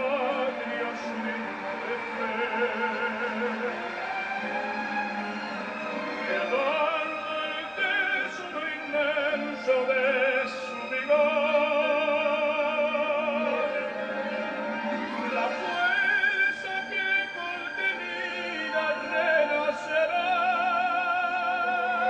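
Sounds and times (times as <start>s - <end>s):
man singing operatically: 0.0s - 4.0s, 6.2s - 22.0s
orchestral accompaniment: 0.0s - 22.0s.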